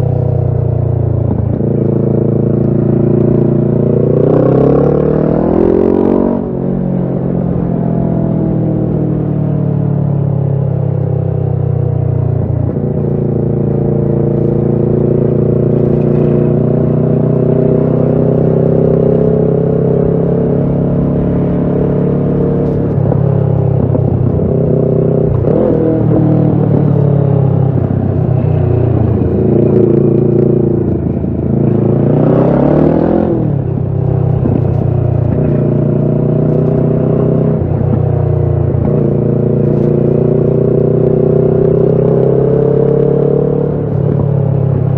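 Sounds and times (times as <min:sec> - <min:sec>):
motorcycle engine riding: 0:00.0 - 0:44.9.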